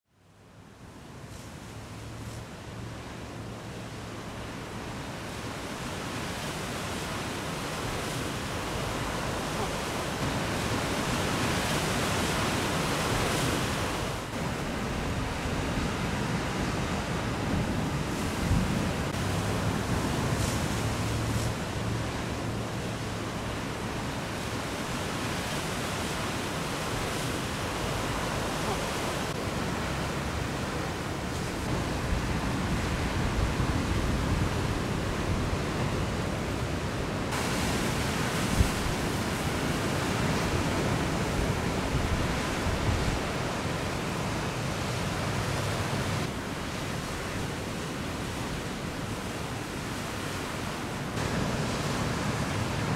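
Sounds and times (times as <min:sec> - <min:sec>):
ocean waves breaking: 0:00.8 - 0:52.9.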